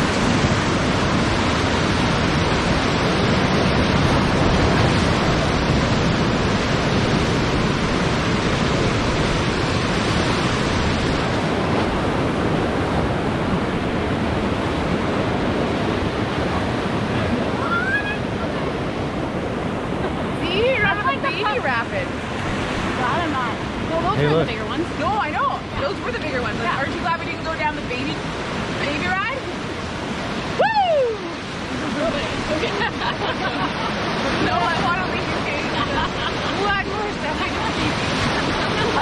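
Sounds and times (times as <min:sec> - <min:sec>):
river rapids rushing: 0:00.0 - 0:39.0.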